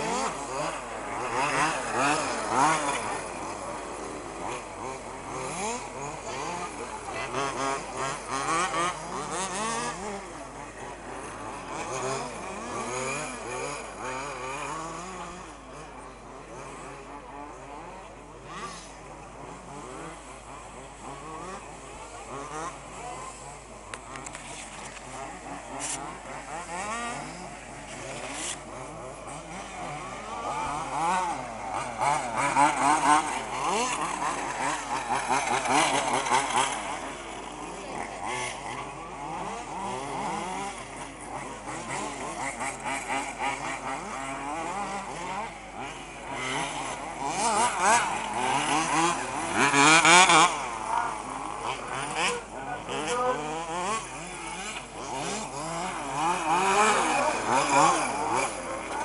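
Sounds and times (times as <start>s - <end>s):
small engines revving: 0.0s - 59.0s.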